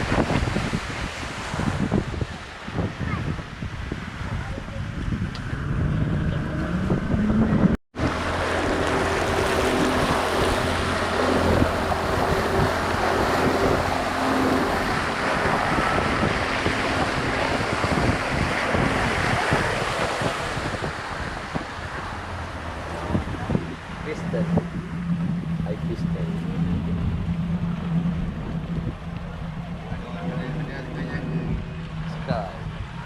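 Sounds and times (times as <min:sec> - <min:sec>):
motorboat engine drone: 0:00.0 - 0:33.0
rushing water: 0:00.0 - 0:33.0
wind noise on microphone: 0:00.0 - 0:33.0.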